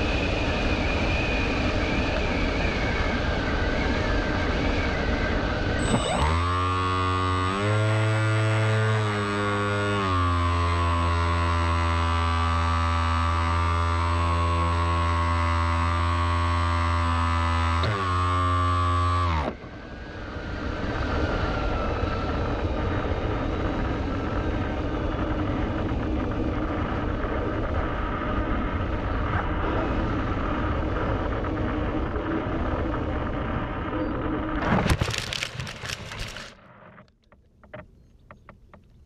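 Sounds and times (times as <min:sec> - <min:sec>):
quadcopter propellers whining: 0:00.0 - 0:36.6.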